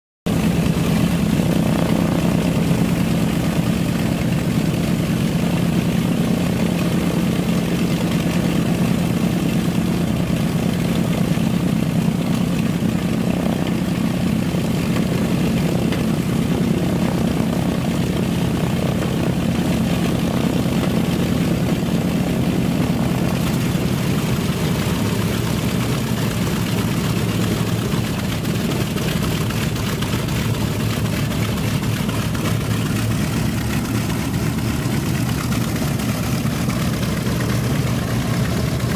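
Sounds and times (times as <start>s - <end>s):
radial aircraft engine idling: 0.3s - 38.9s.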